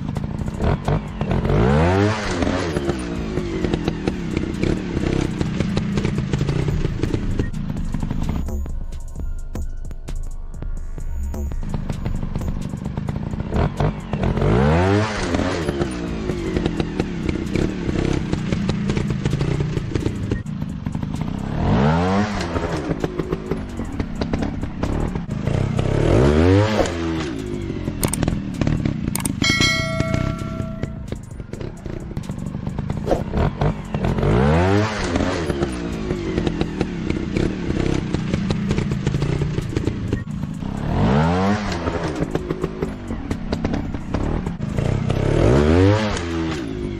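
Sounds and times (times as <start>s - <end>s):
engine clattering: 0.0s - 9.2s, 9.9s - 46.9s
motorcycle engine revving: 0.0s - 9.3s, 10.9s - 46.9s.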